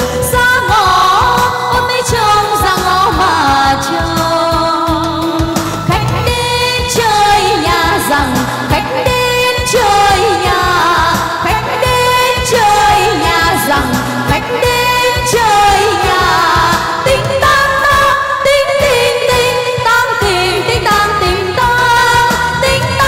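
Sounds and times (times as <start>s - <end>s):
amplified instrumental accompaniment: 0.0s - 23.0s
women singing into microphones: 0.0s - 23.0s.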